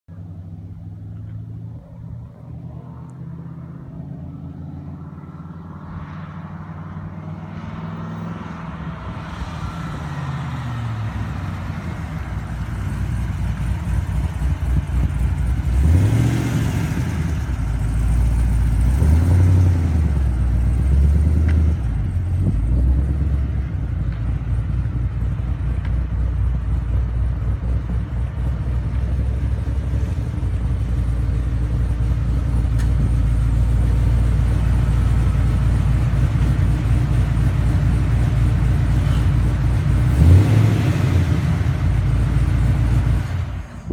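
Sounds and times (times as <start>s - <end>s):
car engine revving: 0.7s - 43.9s.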